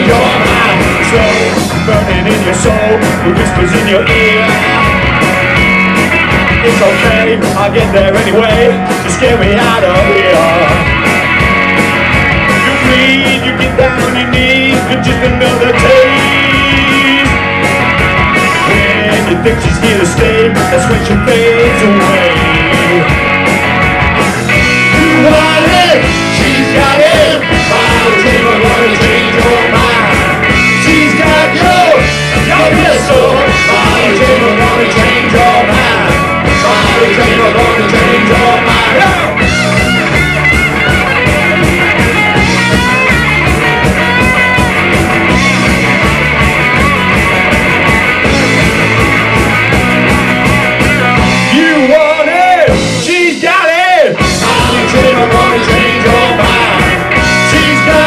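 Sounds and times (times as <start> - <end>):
lead guitar bending notes: 0.0 - 51.6
rock band playing: 0.0 - 58.0.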